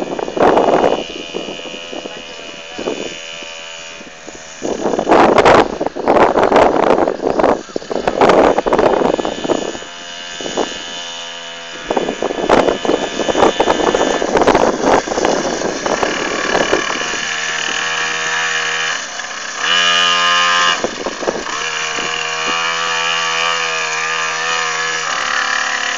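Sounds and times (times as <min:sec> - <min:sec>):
dirt bike engine idling: 0:00.0 - 0:25.9.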